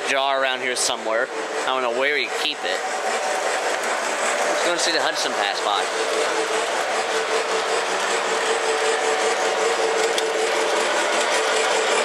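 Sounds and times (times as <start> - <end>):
model train rolling: 0.0 - 12.0
motor hum: 0.0 - 12.0.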